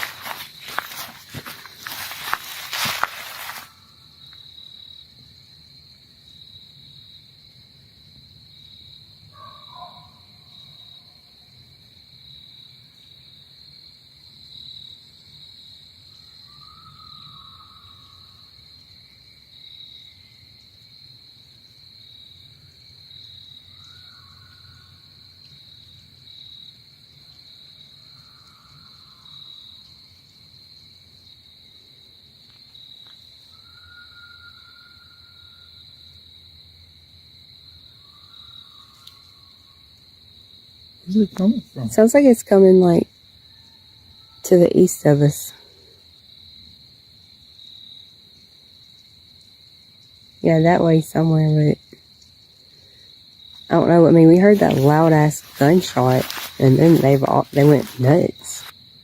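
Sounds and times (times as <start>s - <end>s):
insect chirring drone: 0.0s - 59.0s.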